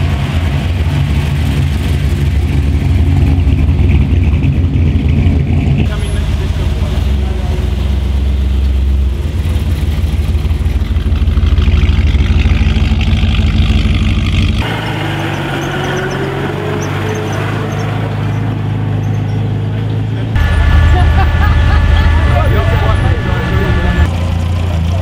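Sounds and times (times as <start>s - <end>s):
car engines rumbling past slowly: 0.0s - 25.0s
old car engine rolling past: 0.0s - 25.0s.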